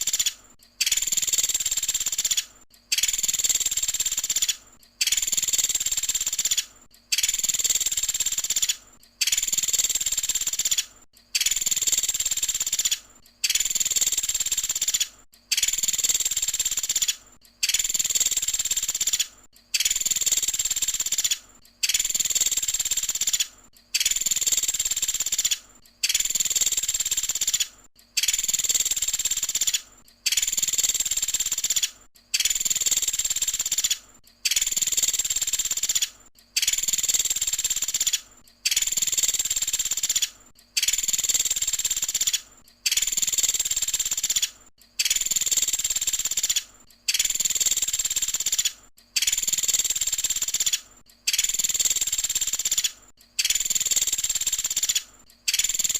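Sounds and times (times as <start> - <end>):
woodpecker trilled call: 0.0 - 55.9.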